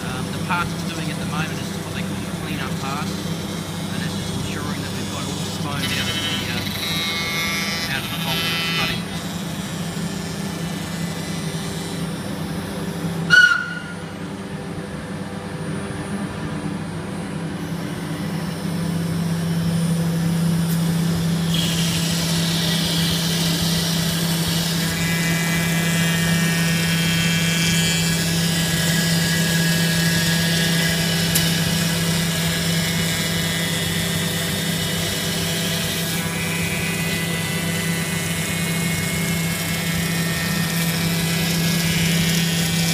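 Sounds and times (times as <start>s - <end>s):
router spindle cutting: 0.0s - 13.2s, 17.7s - 42.9s.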